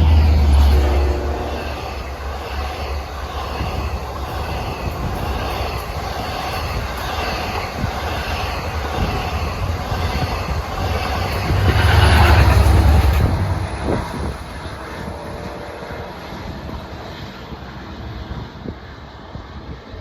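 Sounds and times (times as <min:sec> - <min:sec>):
train wheels rumbling over rails: 0:00.0 - 0:20.0.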